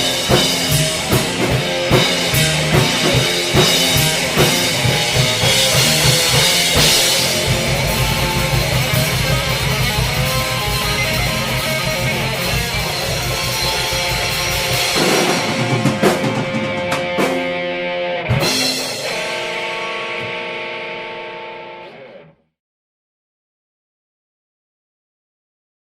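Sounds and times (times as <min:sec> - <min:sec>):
rock band playing: 0:00.0 - 0:22.4.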